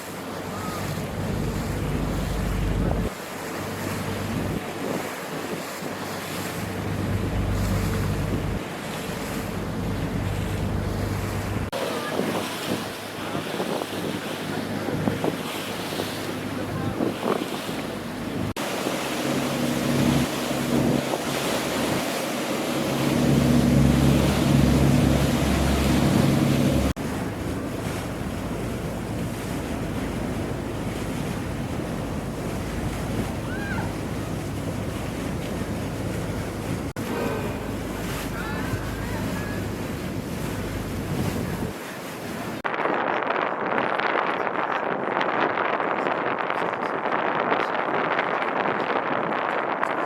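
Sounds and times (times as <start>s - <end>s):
boat engine humming: 0.0s - 42.6s
harbour water noise: 0.0s - 50.0s
wind buffeting microphone: 0.1s - 50.0s.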